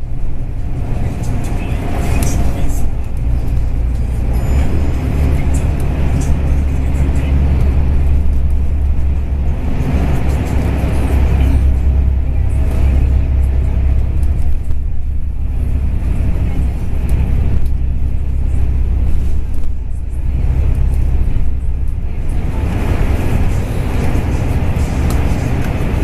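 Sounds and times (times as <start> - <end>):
bus engine rumble: 0.0 - 26.0
road and tyre noise: 0.0 - 26.0.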